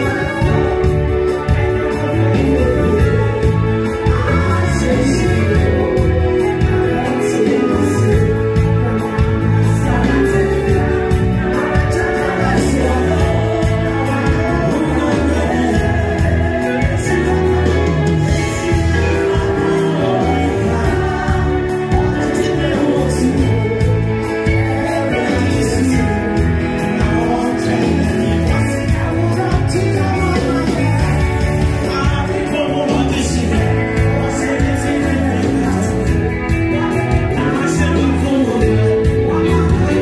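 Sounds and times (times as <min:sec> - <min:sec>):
gospel singers on microphones: 0:00.0 - 0:40.0
keyboard drums and electric guitar band: 0:00.0 - 0:40.0.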